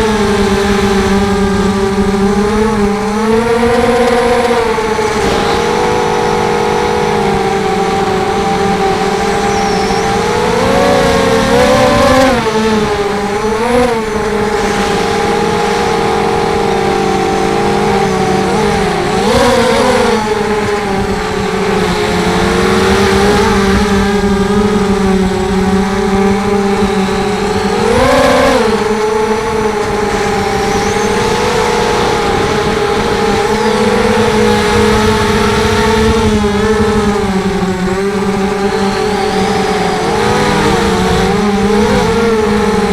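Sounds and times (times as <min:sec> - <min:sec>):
quadcopter motors whining: 0:00.0 - 0:42.9.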